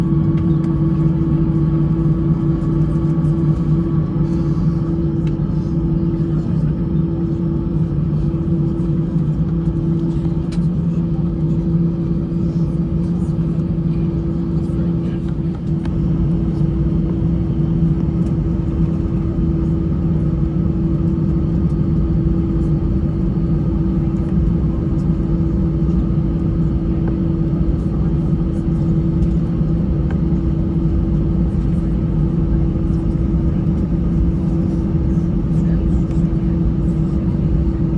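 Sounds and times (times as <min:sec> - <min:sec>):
aircraft cabin rumble: 0:00.0 - 0:37.9.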